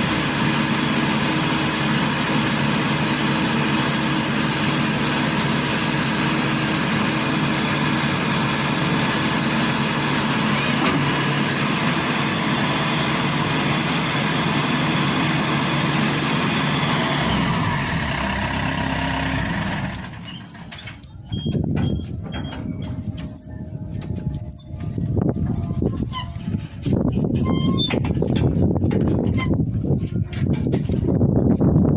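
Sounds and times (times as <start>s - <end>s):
combine harvester engine running: 0.0s - 31.9s.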